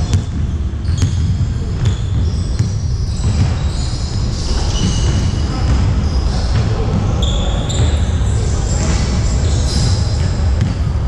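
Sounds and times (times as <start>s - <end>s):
basketball bouncing on gym floor: 0.0s - 11.0s
low rumble of hall: 0.0s - 11.0s.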